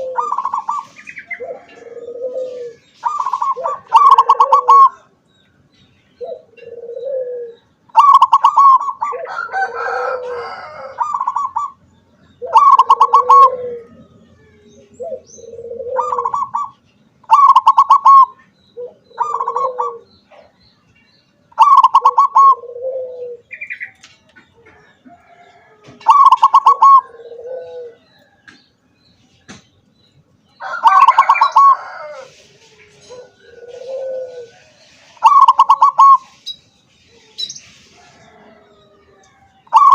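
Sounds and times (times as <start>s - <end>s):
dove cooing: 0.0s - 5.2s, 6.2s - 20.6s, 21.5s - 28.5s, 30.6s - 36.5s, 37.1s - 39.9s.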